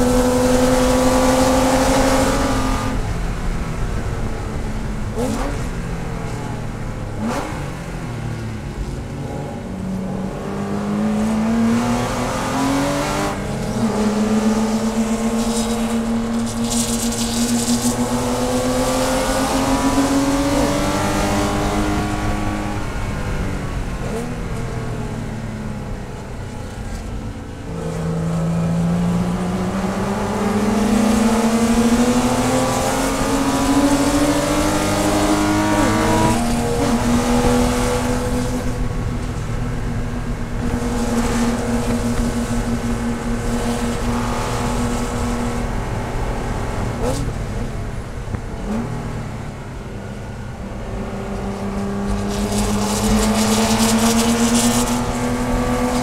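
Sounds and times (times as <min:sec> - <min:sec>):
race car engine revving: 0:00.0 - 0:03.2, 0:03.8 - 0:25.1, 0:26.3 - 0:56.0.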